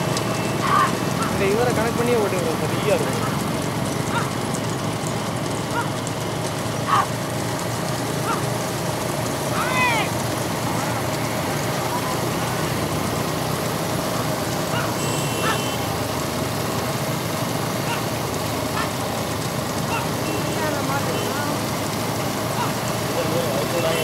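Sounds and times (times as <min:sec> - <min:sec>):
motorcycles running: 0:00.0 - 0:24.0.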